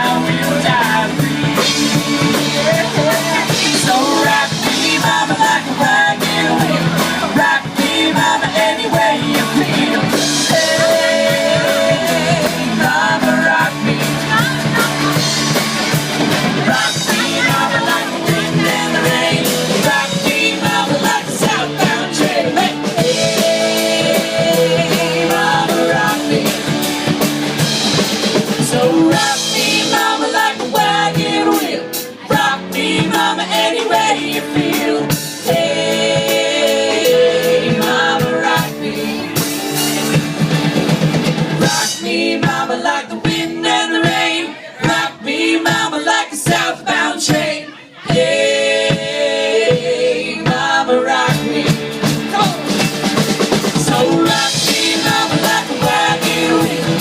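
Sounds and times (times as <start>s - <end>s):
country-rock song with drums and guitar: 0.0s - 57.0s.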